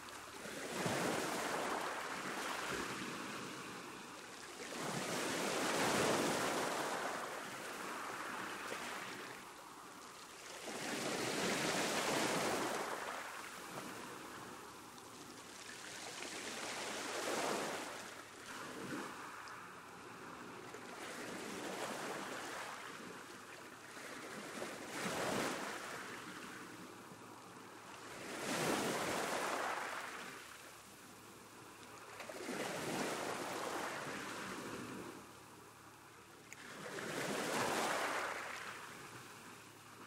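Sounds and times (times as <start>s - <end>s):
ocean waves breaking on beach: 0.0s - 40.0s.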